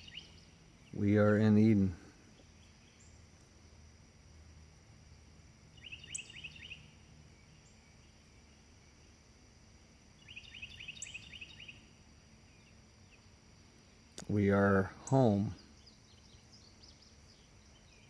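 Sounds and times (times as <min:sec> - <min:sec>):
faint background noise: 0:00.0 - 0:18.0
songbird chirping: 0:00.0 - 0:18.0.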